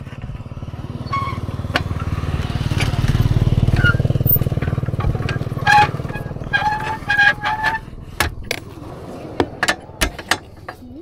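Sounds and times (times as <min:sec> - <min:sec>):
vehicle engine pulsing: 0:00.0 - 0:11.0.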